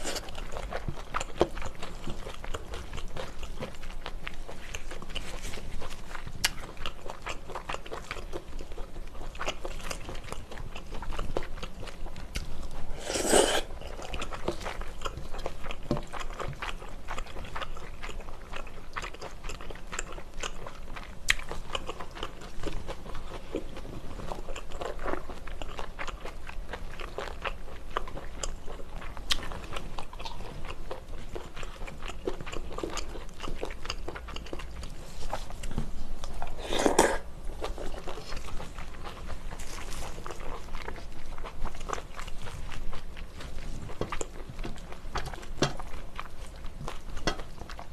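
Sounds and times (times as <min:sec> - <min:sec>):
person chewing and smacking: 0:00.0 - 0:47.9.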